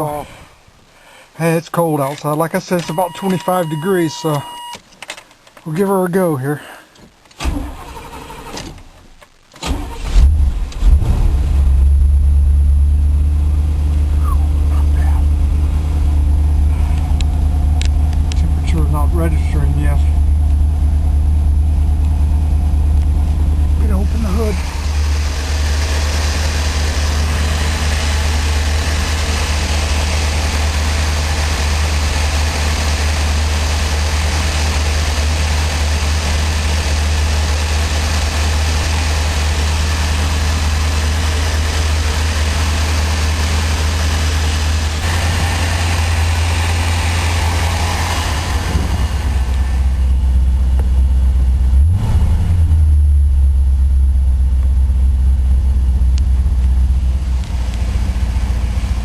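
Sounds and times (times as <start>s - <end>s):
car engine idling: 9.7s - 59.0s.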